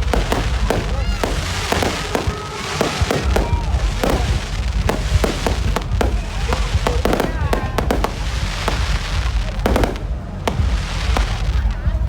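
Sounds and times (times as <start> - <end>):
firework shells bursting: 0.0 - 11.6
firework whistling: 0.0 - 12.0.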